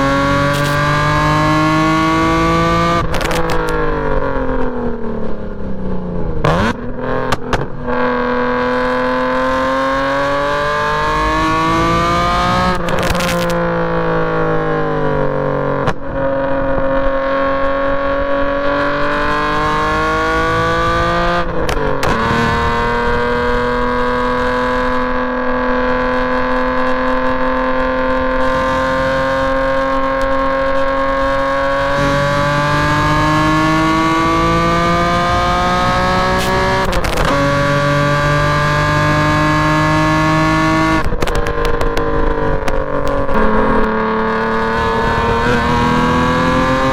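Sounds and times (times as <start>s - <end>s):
car engine accelerating hard: 0.0s - 46.9s.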